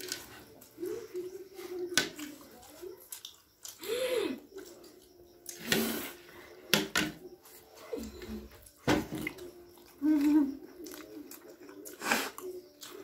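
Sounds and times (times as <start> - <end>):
people eating with mouth noises: 0.0 - 13.0.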